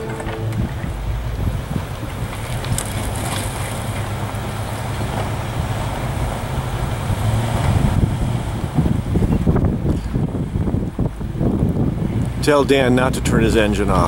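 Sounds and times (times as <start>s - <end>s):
low engine hum: 0.0s - 14.0s
wind buffeting microphone: 0.0s - 14.0s.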